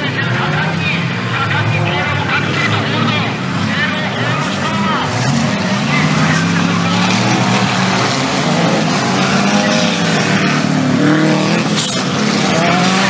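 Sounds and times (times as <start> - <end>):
off-road race engines revving: 0.0 - 13.0.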